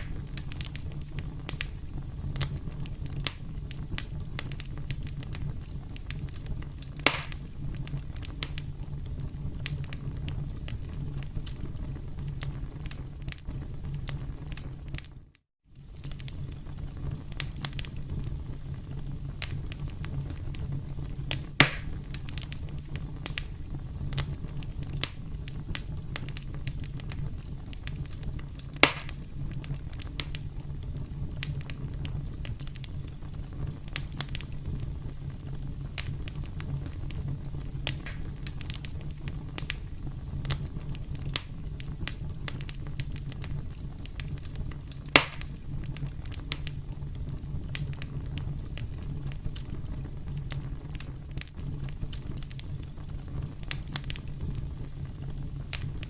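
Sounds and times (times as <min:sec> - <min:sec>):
campfire crackling: 0:00.0 - 0:56.0
low rumble of flames: 0:00.0 - 0:56.0.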